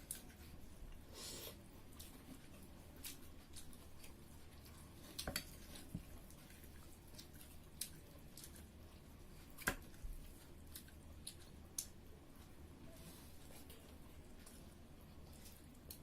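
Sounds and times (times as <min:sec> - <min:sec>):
clicks and taps of people eating: 0:00.0 - 0:01.1, 0:01.9 - 0:12.6, 0:13.4 - 0:16.0.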